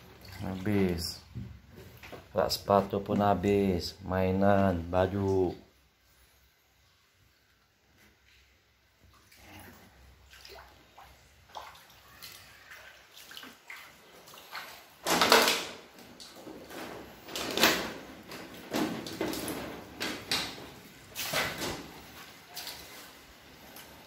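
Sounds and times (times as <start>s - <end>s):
water splashing on floor: 0.0s - 3.4s, 8.0s - 24.0s.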